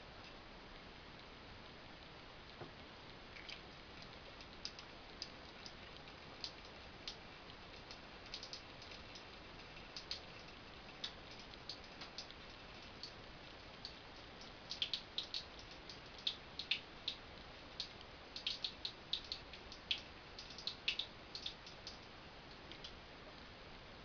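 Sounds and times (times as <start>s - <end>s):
low hiss: 0.0s - 24.0s
light ticks and taps: 3.4s - 23.0s.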